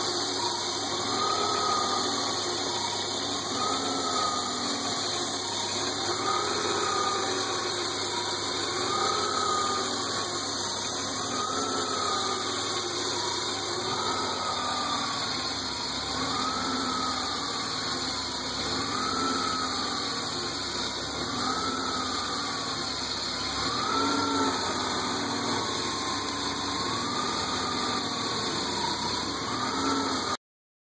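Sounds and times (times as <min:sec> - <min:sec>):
engine whine rising and falling: 0:00.0 - 0:30.4.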